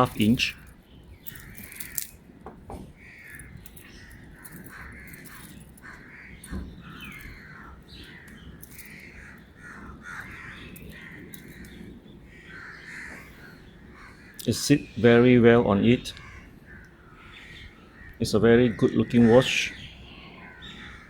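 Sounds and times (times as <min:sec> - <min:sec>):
birds making short rough calls: 0:00.0 - 0:02.2, 0:02.9 - 0:21.0.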